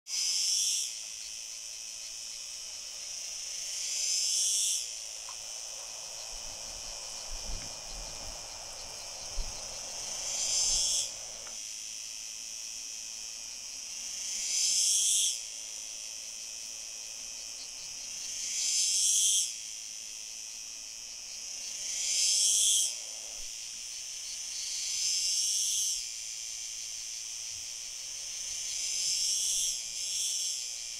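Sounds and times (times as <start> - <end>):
cicada buzzing: 0.1 - 30.9.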